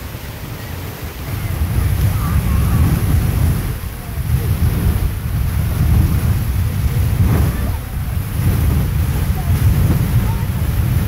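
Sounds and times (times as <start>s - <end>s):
geyser water and steam rushing: 0.0s - 11.0s
wind buffeting microphone: 0.0s - 11.0s.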